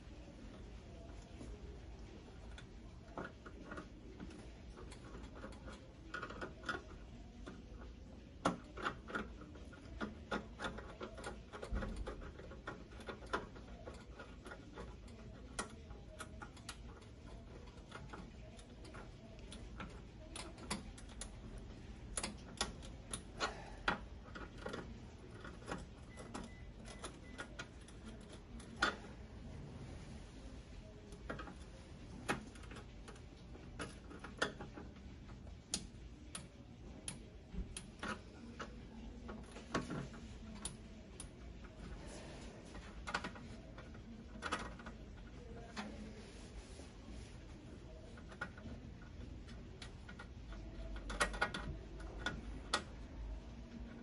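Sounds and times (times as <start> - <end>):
small clicks and taps on metal: 2.4 - 29.2, 30.9 - 46.2, 47.1 - 54.0.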